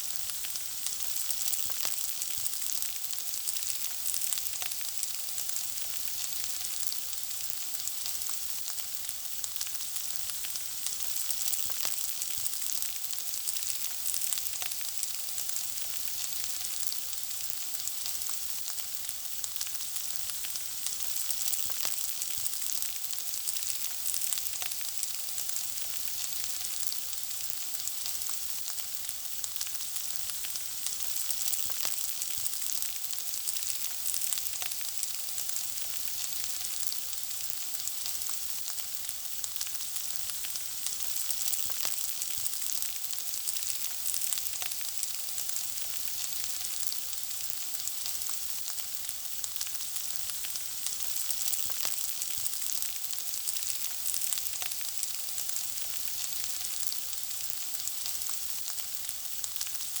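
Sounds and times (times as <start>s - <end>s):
food sizzling in hot oil: 0.0s - 60.0s
oil crackling and popping: 0.0s - 60.0s.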